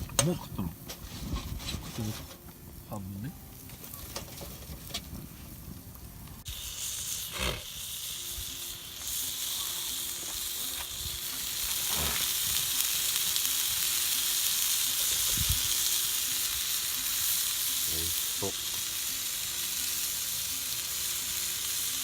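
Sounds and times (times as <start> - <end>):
food sizzling: 0.0 - 22.0.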